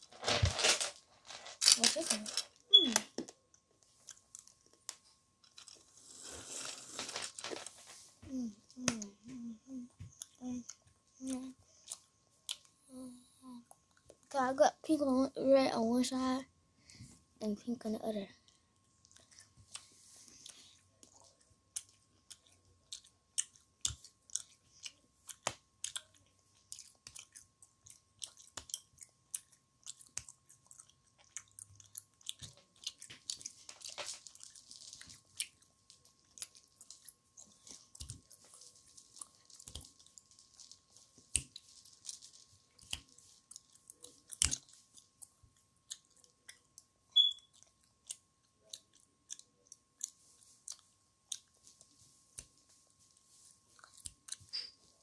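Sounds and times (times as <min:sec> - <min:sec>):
child chewing candy: 0:01.6 - 0:14.4, 0:18.4 - 0:55.0.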